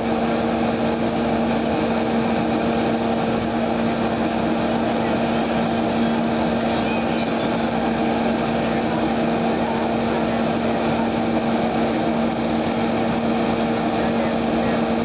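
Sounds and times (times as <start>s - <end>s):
small engine running steadily: 0.0s - 15.0s.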